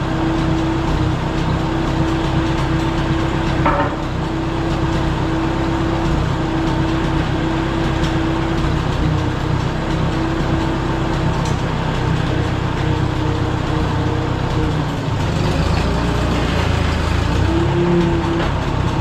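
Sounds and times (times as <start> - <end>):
dozer engine running: 0.0 - 19.0.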